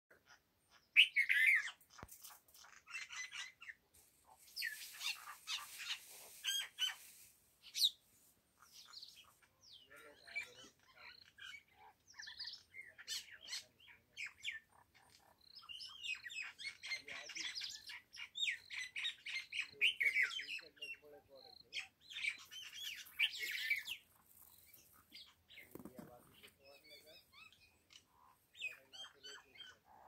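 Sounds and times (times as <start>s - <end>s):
birds chirping: 0.1s - 8.0s, 8.6s - 30.0s.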